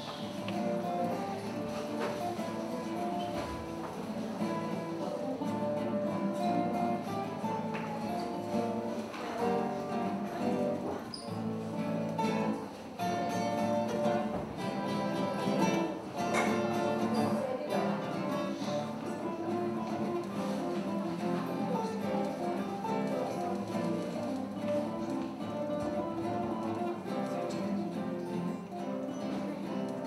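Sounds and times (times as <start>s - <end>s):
acoustic guitars playing: 0.0s - 30.0s.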